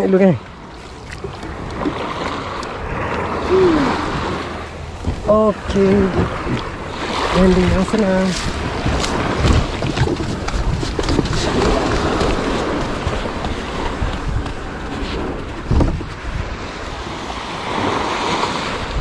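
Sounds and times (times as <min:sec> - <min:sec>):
surf washing onto sandy beach: 0:00.0 - 0:19.0
wind buffeting microphone: 0:00.0 - 0:19.0.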